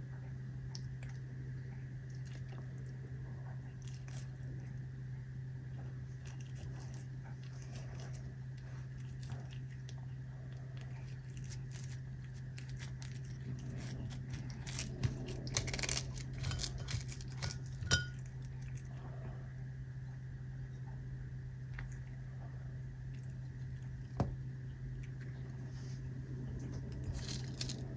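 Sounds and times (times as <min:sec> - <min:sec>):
cat crunching and chewing: 0:00.0 - 0:27.9.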